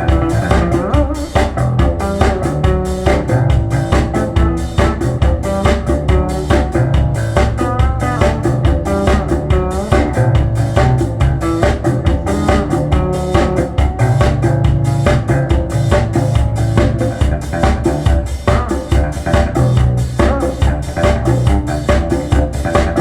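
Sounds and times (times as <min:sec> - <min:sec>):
rock music over loudspeakers: 0:00.0 - 0:23.0.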